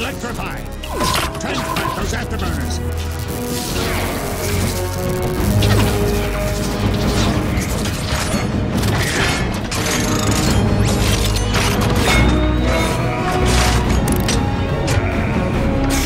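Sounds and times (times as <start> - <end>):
film score with low booms: 0.0 - 16.0.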